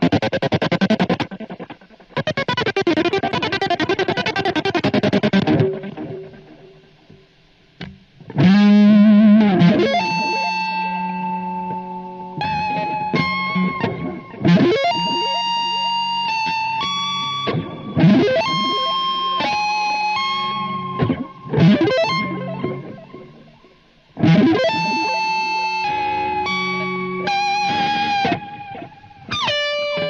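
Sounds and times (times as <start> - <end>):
electric guitar melody: 0.0 - 30.0.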